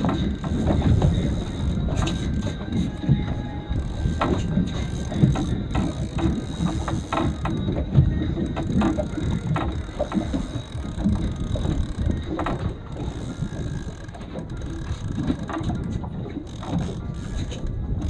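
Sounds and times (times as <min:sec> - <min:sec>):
fishing reel clicking and grinding: 0:00.0 - 0:03.0, 0:03.7 - 0:07.7, 0:08.4 - 0:18.0.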